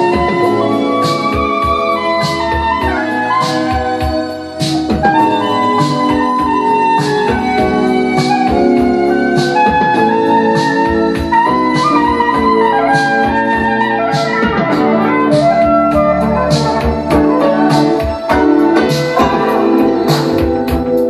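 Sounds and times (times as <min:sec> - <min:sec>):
record music over loudspeakers: 0:00.0 - 0:21.0.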